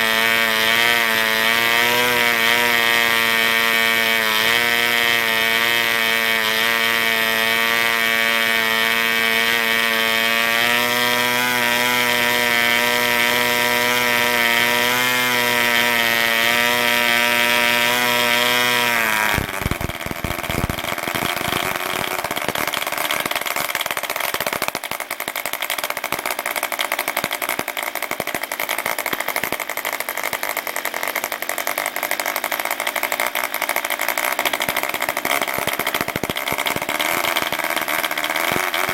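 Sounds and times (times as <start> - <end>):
model engine running: 0.0 - 38.9.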